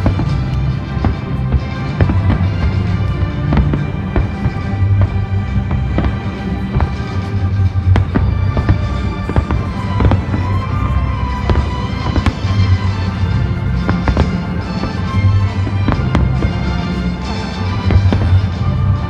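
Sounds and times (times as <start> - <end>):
fireworks bangs: 0.0 - 19.0
orchestral music: 0.0 - 19.0.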